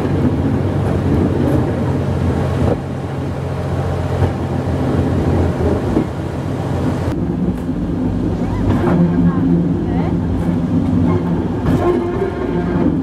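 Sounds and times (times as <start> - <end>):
train engine humming: 0.0 - 13.0
train rolling on track: 0.0 - 13.0.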